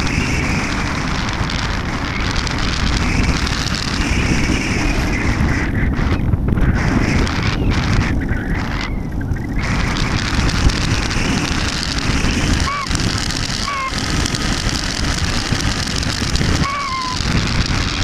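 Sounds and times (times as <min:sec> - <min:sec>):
rushing wind: 0:00.0 - 0:18.0.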